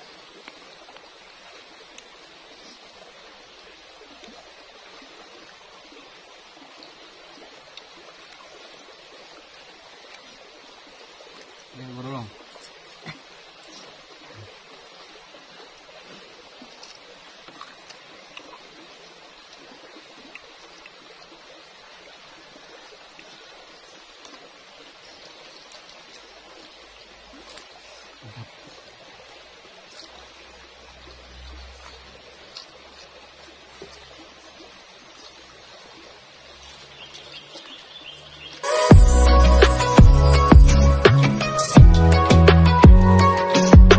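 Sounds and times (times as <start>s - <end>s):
creek water rushing: 0.0s - 43.9s.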